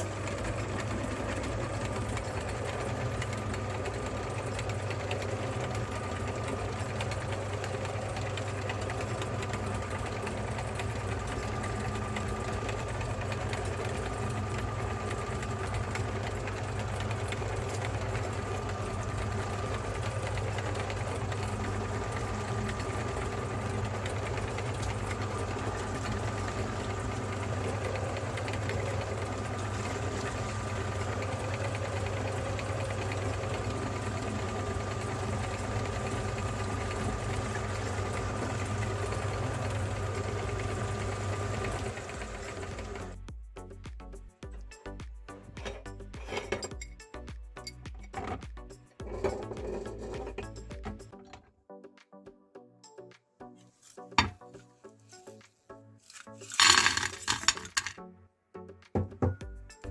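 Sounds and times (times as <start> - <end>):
meat grinder motor humming: 0.0 - 43.4, 45.4 - 46.8, 47.8 - 51.3, 56.0 - 58.0.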